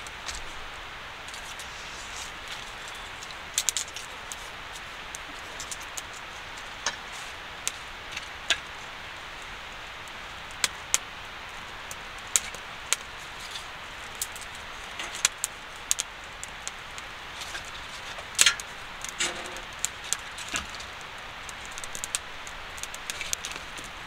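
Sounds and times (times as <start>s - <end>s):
steady hiss: 0.0s - 24.0s
wood fire crackling and popping: 0.0s - 24.0s.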